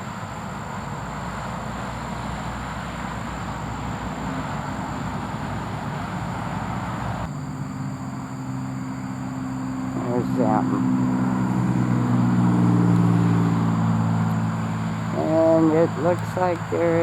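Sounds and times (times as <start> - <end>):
droning hum with low tones: 0.0 - 17.0
vehicle engine noise: 0.0 - 17.0.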